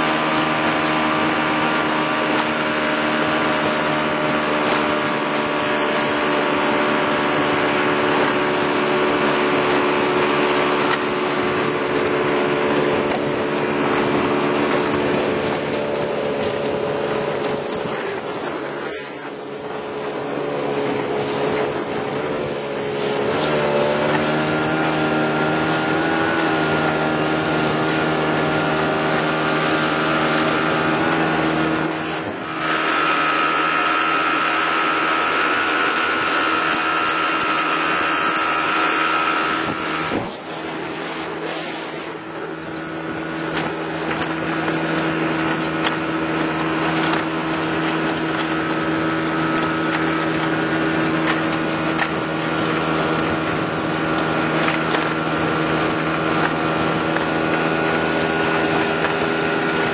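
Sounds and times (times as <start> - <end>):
small boat motor running: 0.0 - 59.9.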